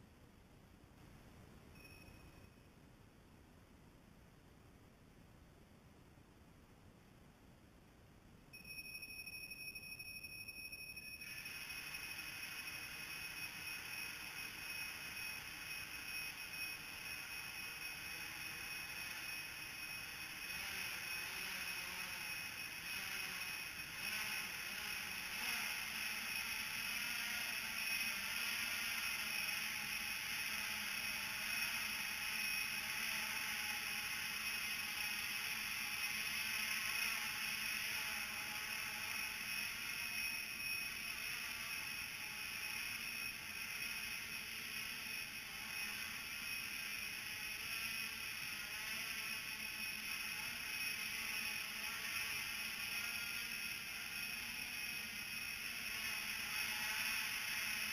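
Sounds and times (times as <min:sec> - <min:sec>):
drone propellers whirring: 0:11.2 - 0:57.9.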